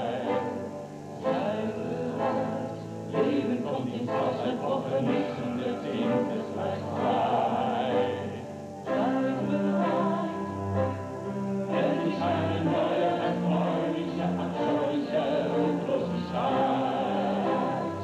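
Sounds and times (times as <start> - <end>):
choir singing held notes: 0.0 - 18.0
musical accompaniment: 0.0 - 18.0.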